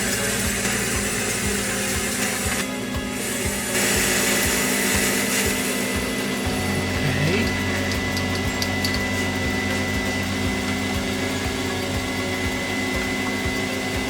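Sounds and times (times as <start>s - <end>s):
metal lathe motor whine: 0.0s - 14.0s.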